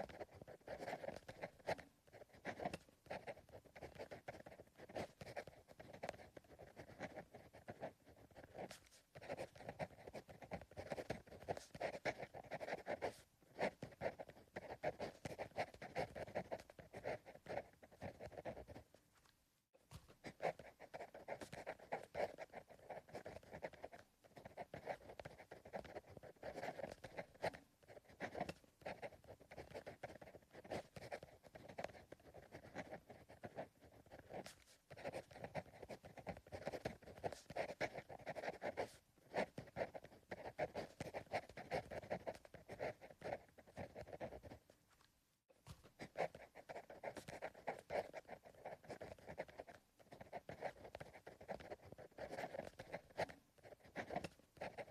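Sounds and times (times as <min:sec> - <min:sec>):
pencil scratching on paper: 0:00.0 - 0:19.0, 0:19.9 - 0:44.8, 0:45.6 - 0:54.9.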